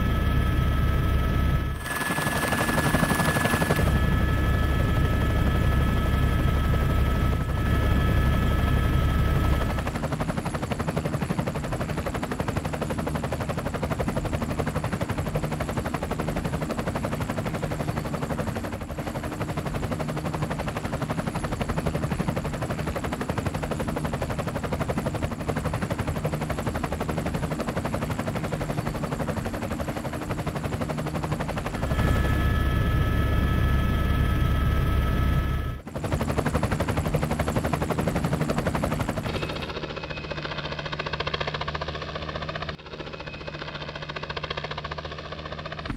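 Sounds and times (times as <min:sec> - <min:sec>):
helicopter rotor and turbine: 0:00.0 - 0:45.9.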